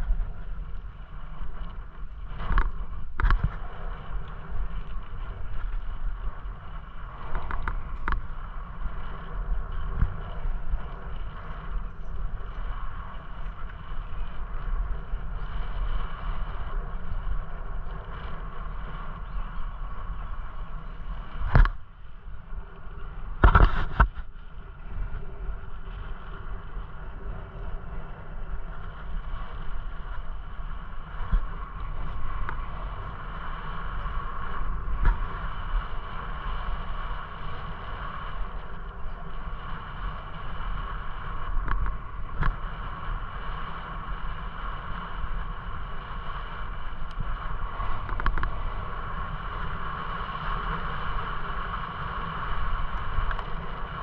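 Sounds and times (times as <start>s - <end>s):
bicycle tyre noise: 0.0s - 54.0s
wind rumbling on microphone: 0.0s - 54.0s.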